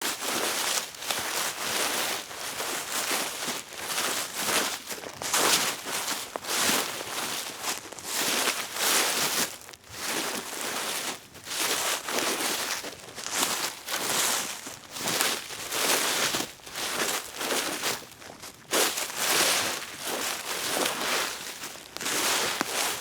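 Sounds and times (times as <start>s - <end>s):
leaves rustling: 0.0s - 23.0s.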